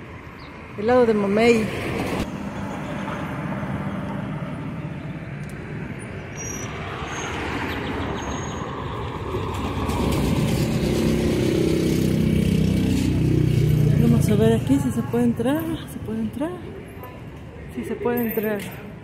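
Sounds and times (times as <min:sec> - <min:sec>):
cars and vans driving past: 0:00.0 - 0:18.1.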